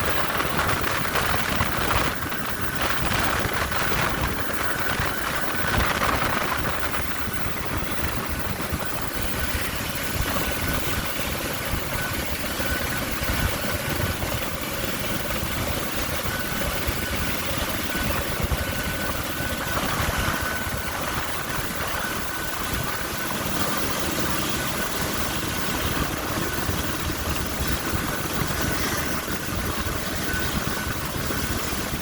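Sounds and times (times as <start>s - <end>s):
faint high whine: 0.0s - 32.0s
helicopter rumble: 0.0s - 32.0s.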